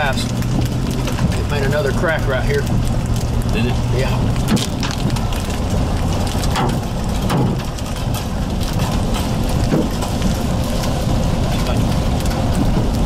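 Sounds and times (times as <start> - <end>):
car road noise: 0.0 - 13.0
rain and hail hitting a car: 0.0 - 13.0.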